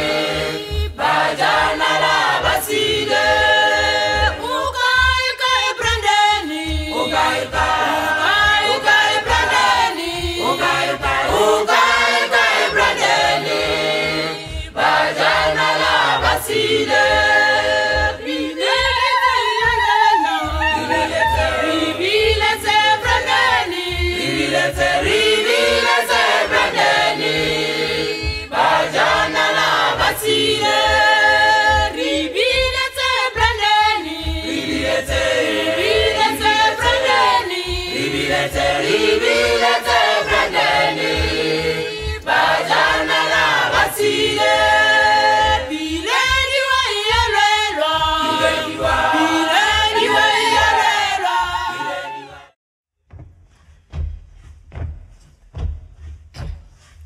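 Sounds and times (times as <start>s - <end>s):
low drumbeat: 0.0s - 51.9s, 53.0s - 56.8s
choir singing: 0.0s - 52.6s.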